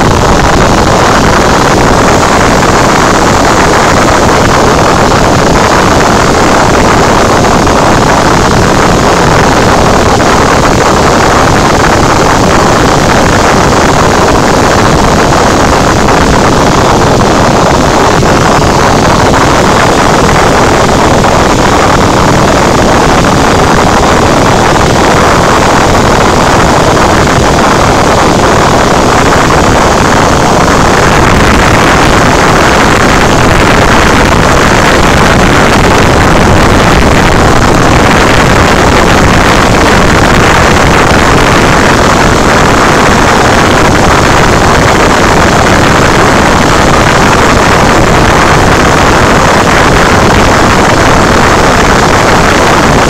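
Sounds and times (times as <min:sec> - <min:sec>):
airplane engine drone in cabin: 0:00.0 - 0:53.0.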